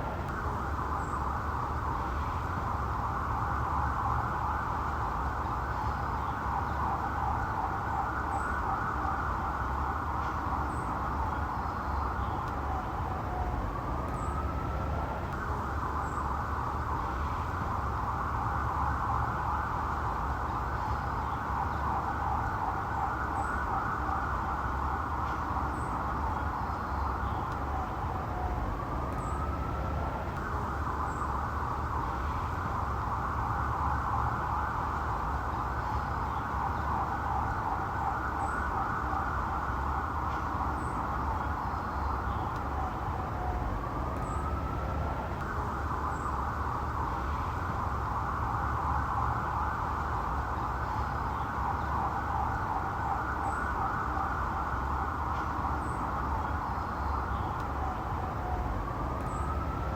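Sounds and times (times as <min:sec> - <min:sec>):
low engine rumble: 0:00.0 - 0:59.9
police siren warble: 0:00.0 - 0:59.9.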